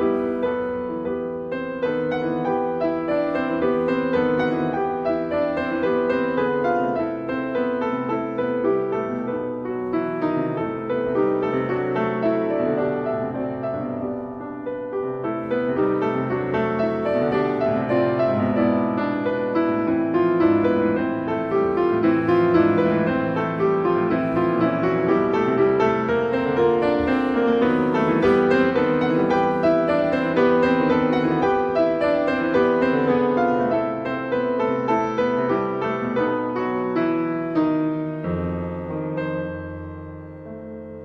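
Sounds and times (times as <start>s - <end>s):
instrumental piano music: 0.0s - 41.0s.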